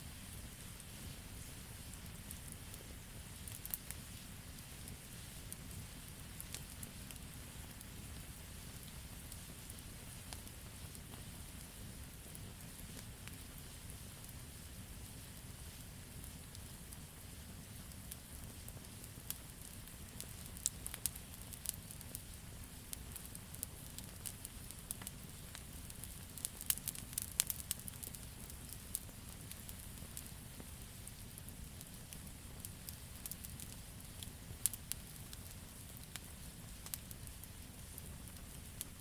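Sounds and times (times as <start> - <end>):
low rumble of flames: 0.0 - 39.0
campfire crackling and popping: 0.2 - 39.0.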